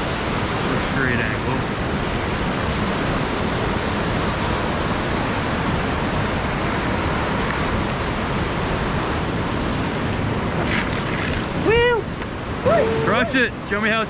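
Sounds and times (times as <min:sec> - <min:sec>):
whitewater rapids rushing: 0:00.0 - 0:14.0.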